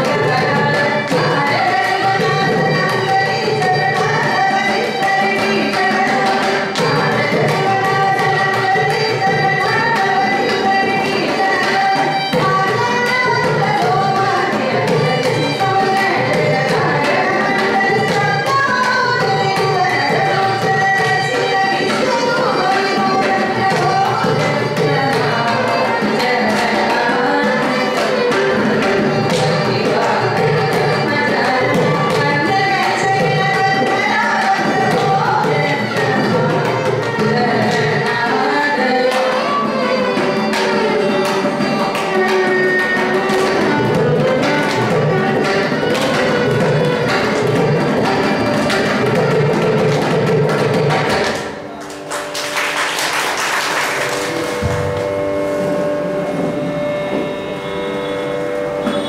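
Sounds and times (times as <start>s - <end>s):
women singing: 0.0s - 51.2s
violin: 0.0s - 52.8s, 53.4s - 59.0s.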